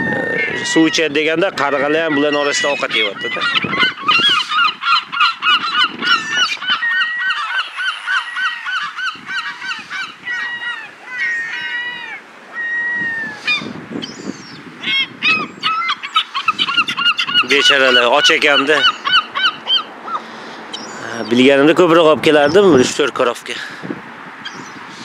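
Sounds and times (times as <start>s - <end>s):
gulls squawking: 0.0s - 23.6s.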